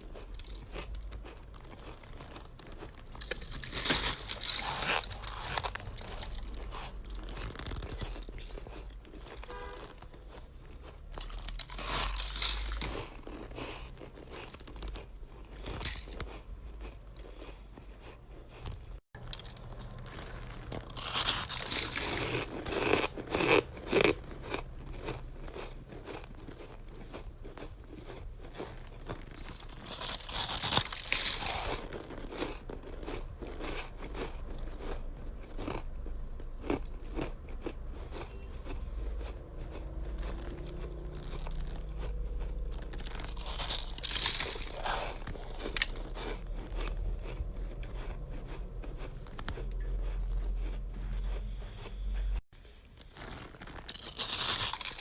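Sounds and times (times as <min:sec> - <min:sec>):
person crunching ice: 0:00.0 - 0:51.8, 0:52.7 - 0:55.0.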